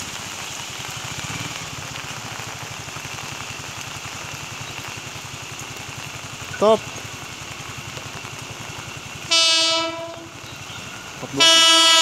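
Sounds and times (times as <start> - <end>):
scooter engine idling: 0.0 - 12.0
steady rain: 0.0 - 12.0.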